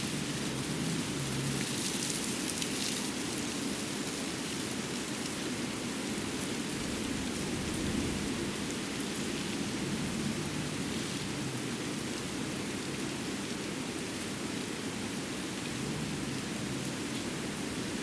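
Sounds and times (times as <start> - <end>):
outdoor water rushing: 0.0 - 18.0.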